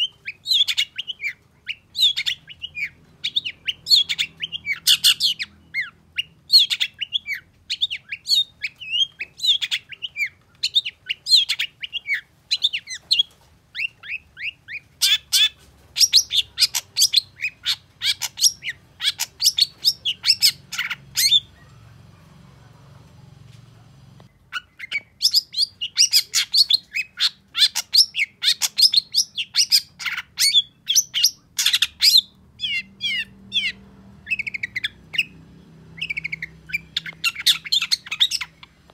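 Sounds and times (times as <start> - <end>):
bird chattering song: 0.0 - 22.4, 24.3 - 38.9.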